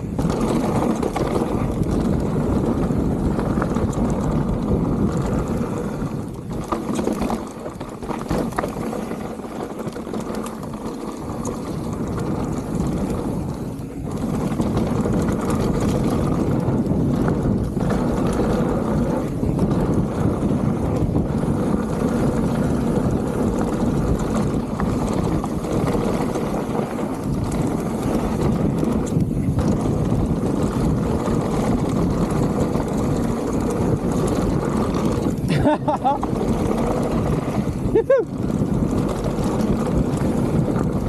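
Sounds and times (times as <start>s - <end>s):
bike tyres rumbling on dirt: 0.0s - 41.0s
wind buffeting microphone: 0.0s - 41.0s.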